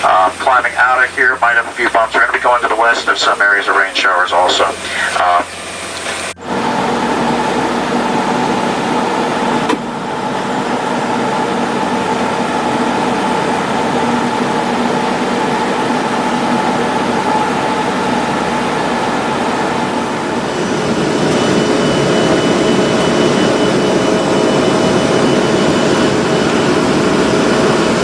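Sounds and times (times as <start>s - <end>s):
airliner cabin engine and air noise: 0.0s - 28.0s.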